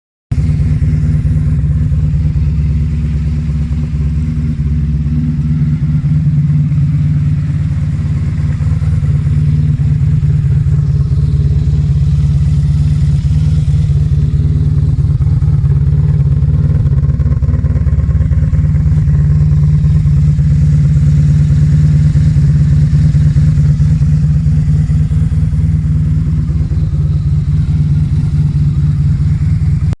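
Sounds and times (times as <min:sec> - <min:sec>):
motorcycle engine idling: 0:00.3 - 0:30.0.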